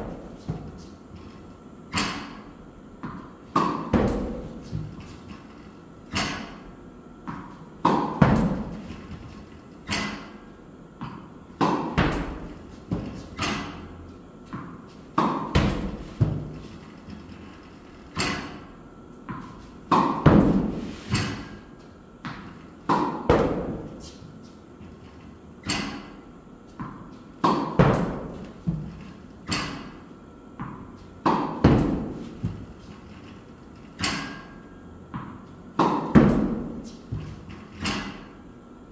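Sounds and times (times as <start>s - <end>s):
racket hitting tennis ball: 0.0s - 1.0s, 1.9s - 5.4s, 6.1s - 6.6s, 7.2s - 16.8s, 18.1s - 24.3s, 25.6s - 30.0s, 30.6s - 32.9s, 34.0s - 38.4s.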